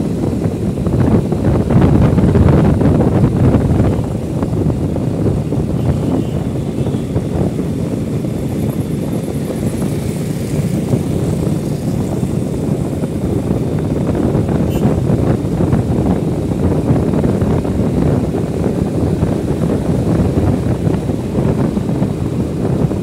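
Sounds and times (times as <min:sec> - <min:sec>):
motorcycle engine: 0:00.0 - 0:23.0
road noise: 0:00.0 - 0:23.0
wind buffeting microphone: 0:00.0 - 0:23.0.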